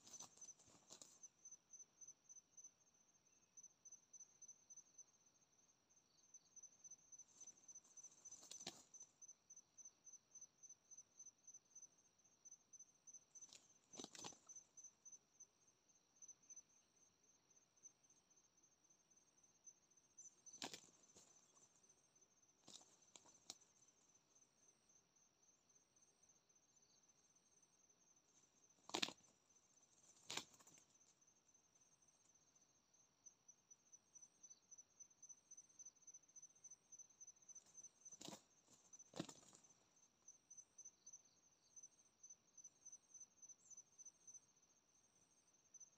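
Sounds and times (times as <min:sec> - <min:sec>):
insect chirping: 0:00.0 - 0:45.9.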